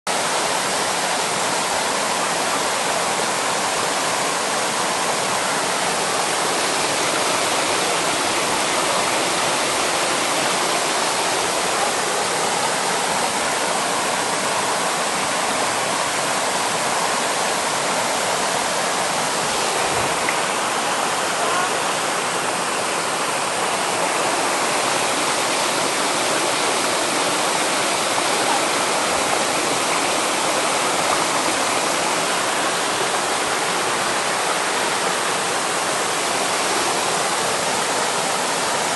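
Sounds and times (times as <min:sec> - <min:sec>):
stream rushing over rocks: 0:00.1 - 0:38.9.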